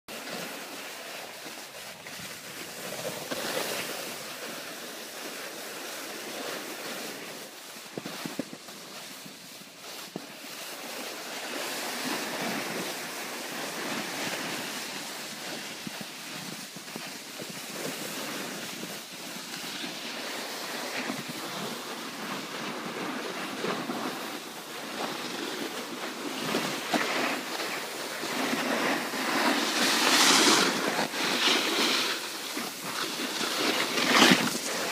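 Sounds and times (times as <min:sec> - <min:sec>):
snowboard scraping snow: 0:00.1 - 0:34.9.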